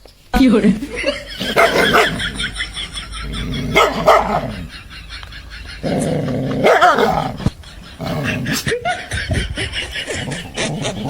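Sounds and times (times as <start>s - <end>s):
dog barking and growling: 1.0s - 11.0s.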